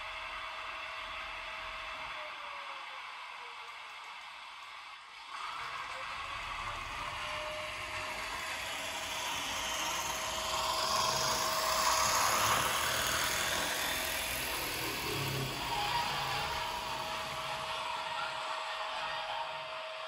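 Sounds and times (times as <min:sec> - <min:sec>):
model train whirring on track: 0:00.0 - 0:20.0.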